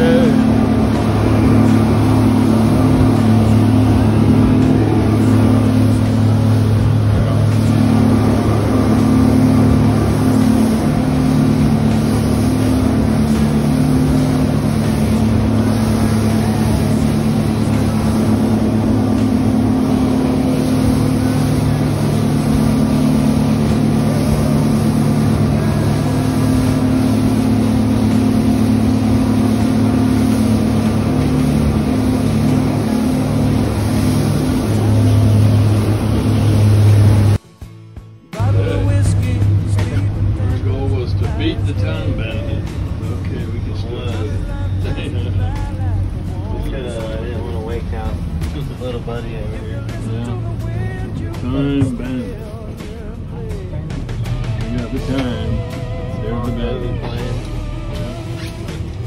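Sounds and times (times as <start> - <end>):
hull rushing through water: 0.0 - 37.4, 38.4 - 59.0
boat engine droning: 0.0 - 59.0.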